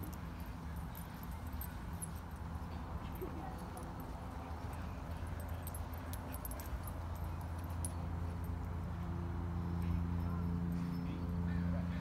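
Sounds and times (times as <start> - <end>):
light metallic jingling: 0.0 - 12.0.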